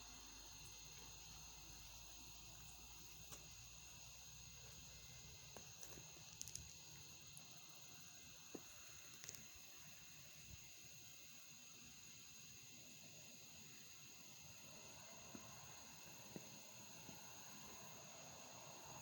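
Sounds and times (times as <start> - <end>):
faint insect chorus: 0.0 - 19.0.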